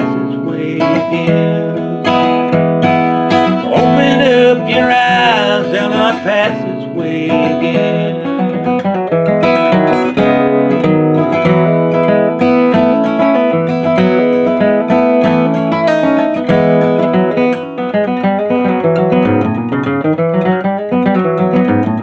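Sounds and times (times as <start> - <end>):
acoustic guitar country music: 0.0 - 22.0.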